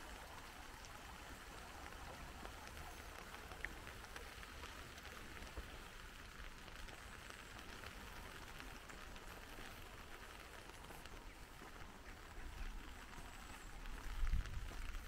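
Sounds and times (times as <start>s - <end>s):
light rain patter: 0.0s - 15.0s
water drips: 0.0s - 15.0s.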